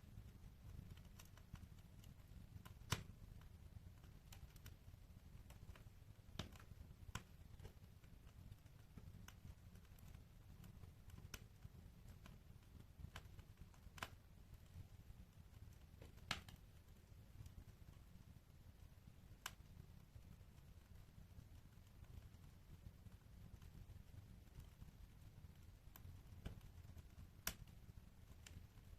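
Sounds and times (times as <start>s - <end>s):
faint low rumble: 0.0s - 28.9s
wood fire crackling: 0.0s - 28.9s.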